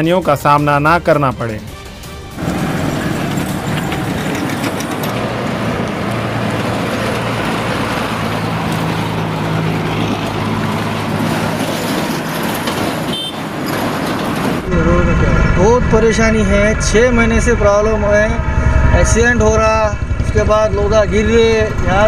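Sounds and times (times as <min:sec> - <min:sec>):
bus engine running: 0:00.0 - 0:22.0
street traffic: 0:00.0 - 0:22.0.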